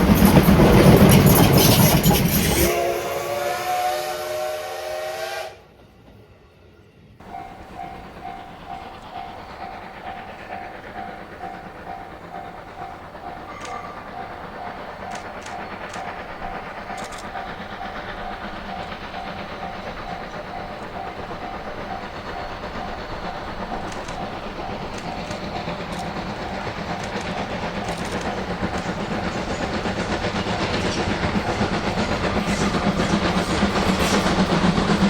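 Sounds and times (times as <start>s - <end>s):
steam locomotive running: 0.0s - 35.0s.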